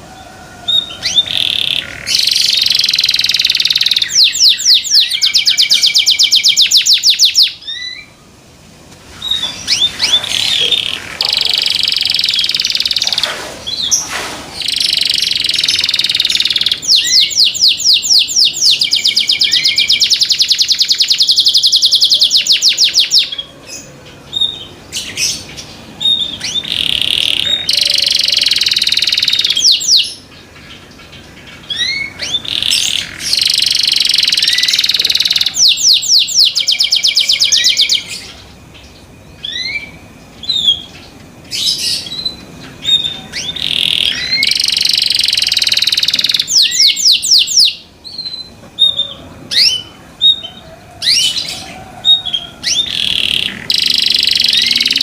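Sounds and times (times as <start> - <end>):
canary singing trills: 0.0 - 8.4, 9.1 - 55.0.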